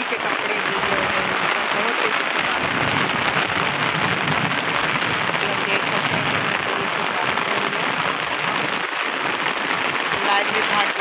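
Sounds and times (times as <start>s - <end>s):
heavy rain on umbrella: 0.0s - 11.0s.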